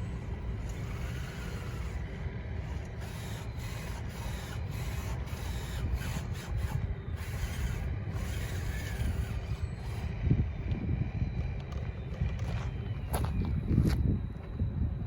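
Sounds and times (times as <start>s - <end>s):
small electric motors whirring: 0.0s - 14.6s
wind on microphone: 0.0s - 15.0s.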